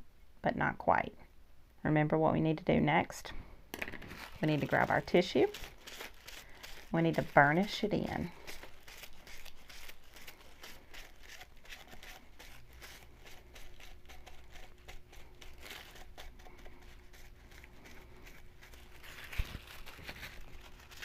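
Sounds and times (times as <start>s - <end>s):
tissue paper rustling on mug: 4.0s - 21.0s.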